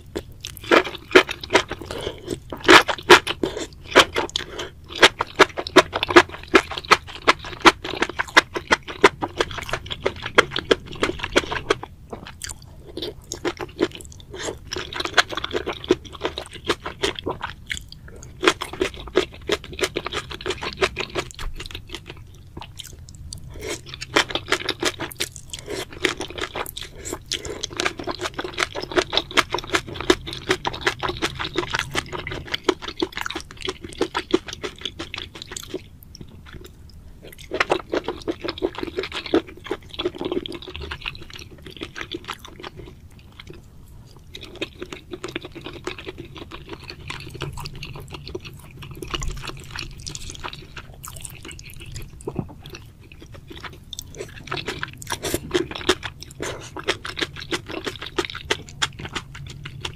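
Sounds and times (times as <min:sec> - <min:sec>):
wet chewing and slurping: 0:00.0 - 0:59.9.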